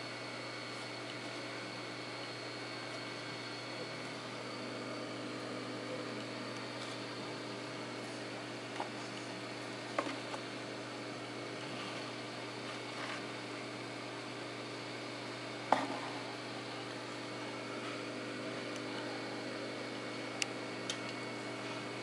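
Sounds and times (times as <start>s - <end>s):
aquarium filter humming: 0.0s - 22.0s.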